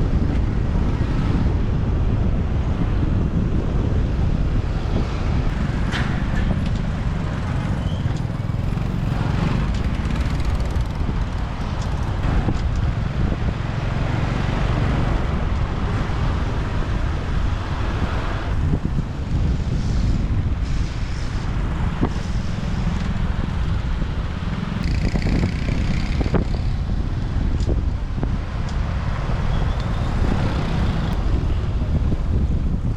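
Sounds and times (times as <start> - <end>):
motorbike engine and road rumble: 0.0 - 32.9
wind on microphone: 0.0 - 32.9.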